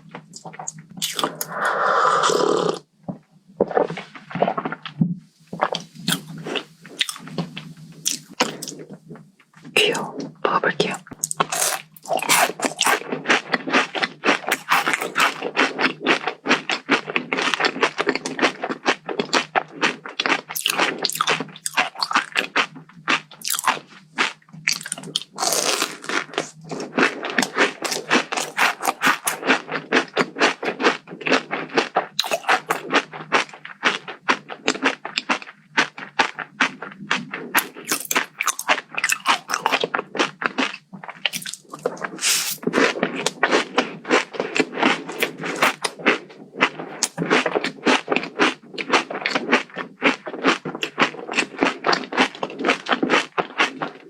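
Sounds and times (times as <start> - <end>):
chewing and crunching crisp dessert: 0.0 - 54.0.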